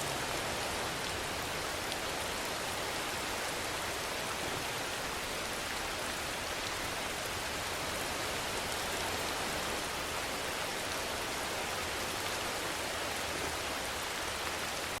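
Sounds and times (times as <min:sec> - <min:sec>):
steady rain hissing: 0:00.0 - 0:15.0.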